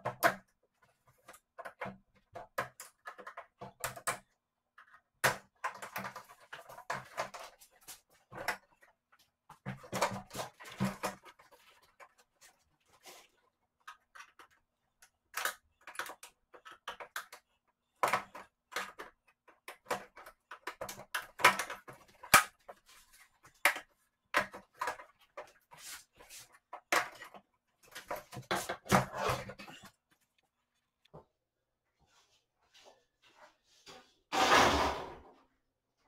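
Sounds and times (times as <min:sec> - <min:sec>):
clicks and taps of plastic parts: 0:00.0 - 0:12.5, 0:13.7 - 0:30.4.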